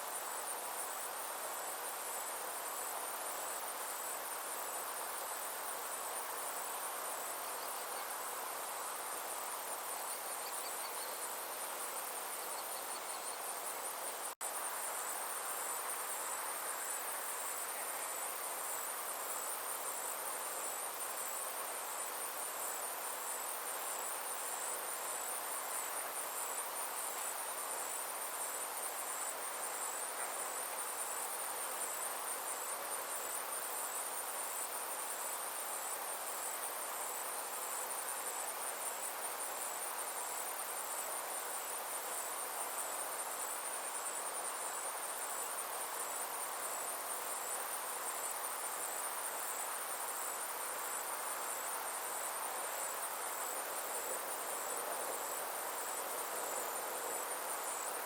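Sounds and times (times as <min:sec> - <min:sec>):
insects trilling: 0:00.0 - 0:58.0
outdoor air hiss: 0:00.0 - 0:58.0.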